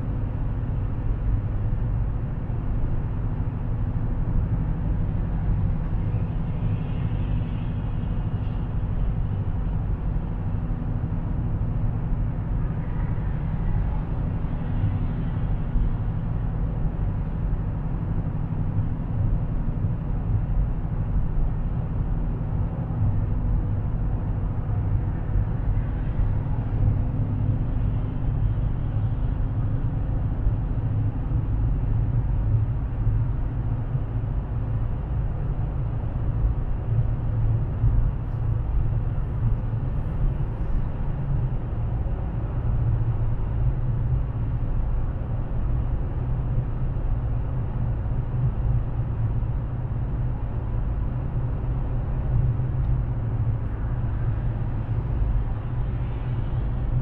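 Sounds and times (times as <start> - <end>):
car engine and exhaust hum: 0.0 - 57.0.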